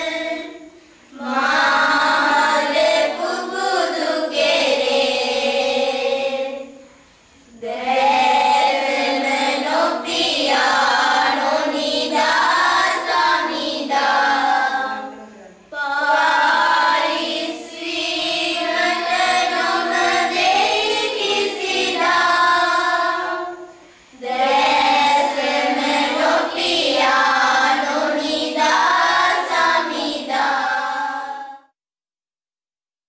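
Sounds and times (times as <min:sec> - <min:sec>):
group of voices singing: 0:00.0 - 0:31.7.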